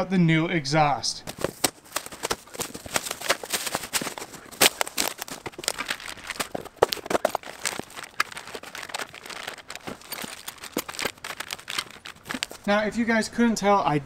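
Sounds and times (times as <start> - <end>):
packing material crinkling: 1.2 - 12.7
sharp clicks and scrapes: 1.3 - 12.7.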